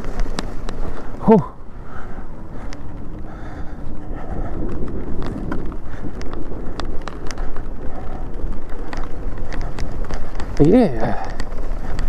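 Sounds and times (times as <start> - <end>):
tyres rumbling over rough ground: 0.0 - 12.0.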